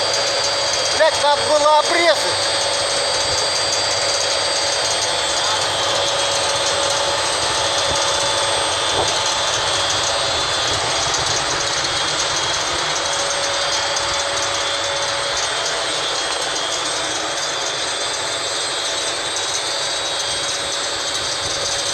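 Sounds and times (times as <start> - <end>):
ventilation fan running: 0.0 - 21.9.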